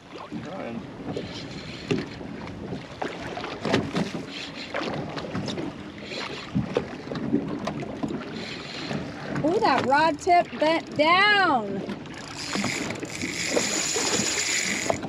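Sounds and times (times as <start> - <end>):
water slapping a boat hull: 0.0 - 15.0.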